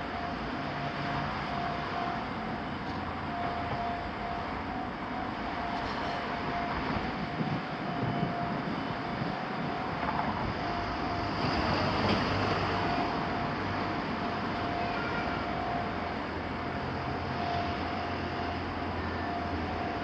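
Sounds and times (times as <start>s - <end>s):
level crossing warning bell: 0.0s - 20.0s
train running through crossing: 0.0s - 20.0s.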